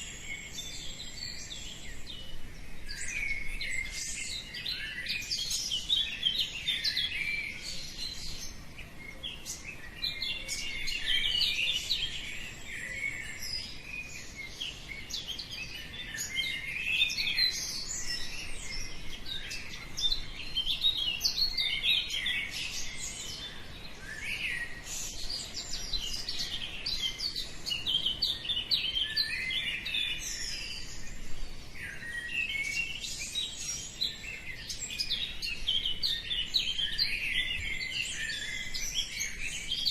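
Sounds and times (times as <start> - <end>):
birds chirping chorus: 0.0 - 39.9.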